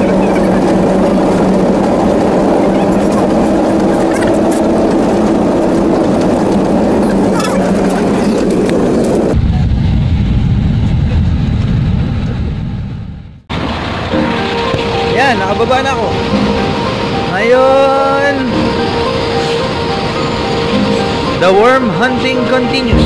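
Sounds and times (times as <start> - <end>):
bus engine and road drone: 0.0 - 23.0.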